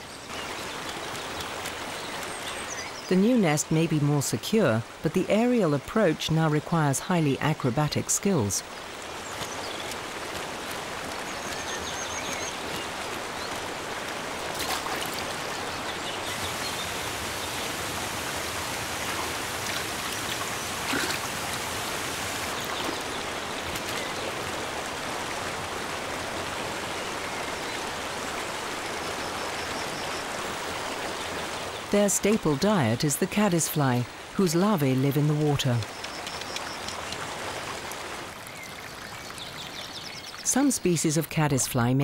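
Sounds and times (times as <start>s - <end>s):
waterfall rushing: 0.2s - 35.3s.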